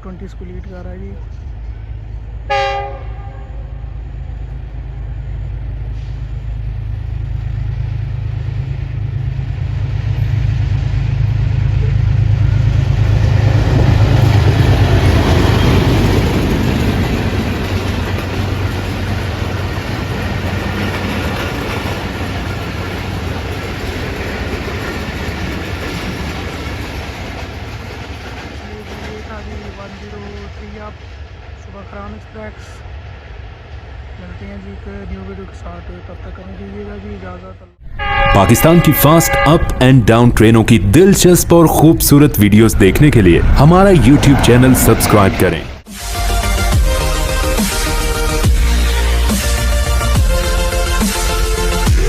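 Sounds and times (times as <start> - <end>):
diesel locomotive engine drone: 0.0 - 52.0
train wheels on rails: 0.0 - 52.0.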